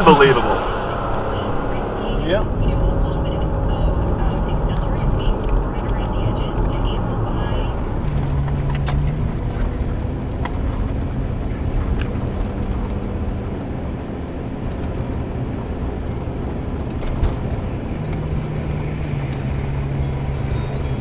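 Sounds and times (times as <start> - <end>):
car engine hum and road noise: 0.0 - 21.0.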